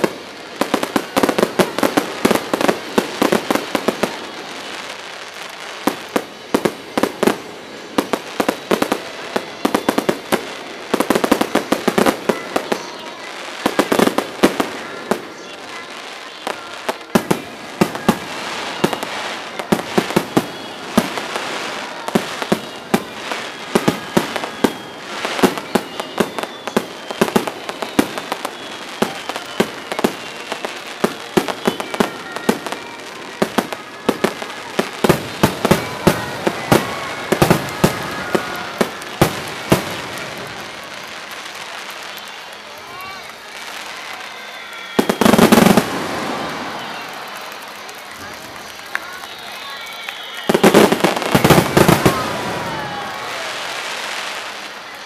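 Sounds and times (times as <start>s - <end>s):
fireworks bursting: 0.0s - 55.0s
fireworks crackling: 0.0s - 55.0s.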